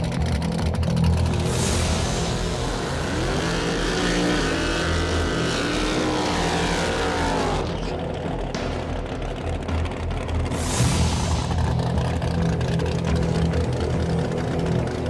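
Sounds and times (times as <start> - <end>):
drag racing engines revving: 0.0 - 15.0.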